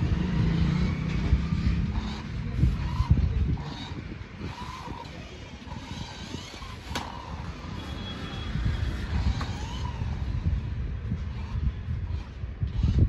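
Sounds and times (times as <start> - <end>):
toy car motor whining: 1.9 - 10.6, 11.2 - 13.0.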